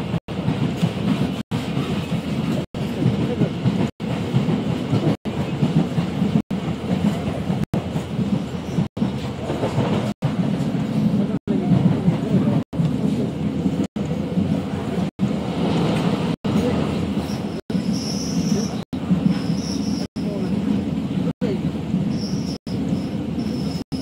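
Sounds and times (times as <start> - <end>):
train rumbling along track: 0.0 - 24.0.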